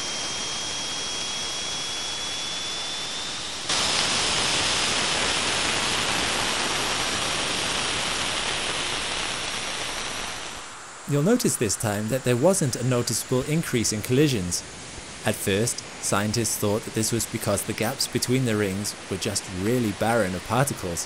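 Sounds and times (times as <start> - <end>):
steady hiss: 2.8 - 21.0.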